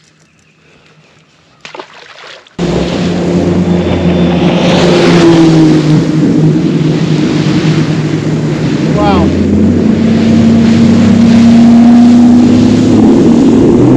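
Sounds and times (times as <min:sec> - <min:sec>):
outboard motor drone: 0:00.7 - 0:13.9
rushing water: 0:01.2 - 0:13.9
wind noise: 0:02.6 - 0:13.9.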